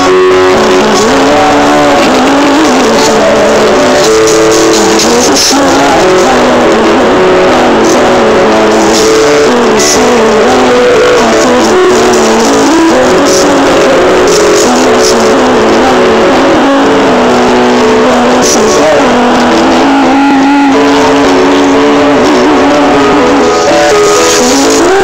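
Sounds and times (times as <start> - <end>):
electric guitars: 0.0 - 25.0
woman singing: 0.0 - 25.0.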